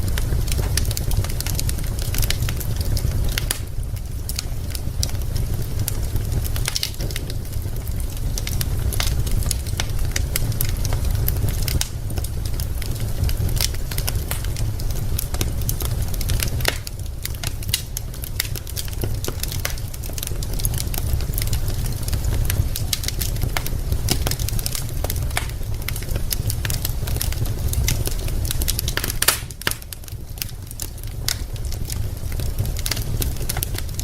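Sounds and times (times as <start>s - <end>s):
low fire rumble: 0.0s - 34.0s
wood fire crackling: 0.0s - 34.0s.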